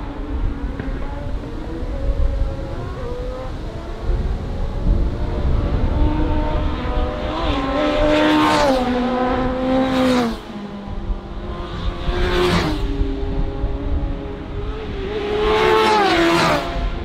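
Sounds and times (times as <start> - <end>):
racing motorcycles passing at high revs: 0.0 - 17.0.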